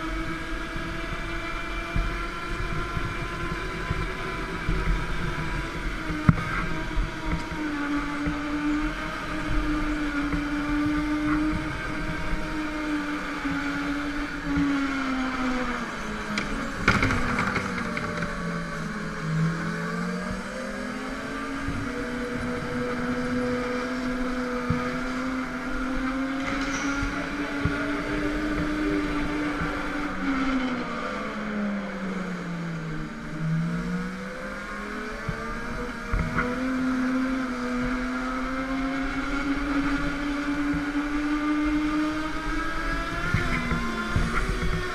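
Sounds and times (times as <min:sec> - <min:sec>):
go-kart motor running: 0:00.0 - 0:44.9.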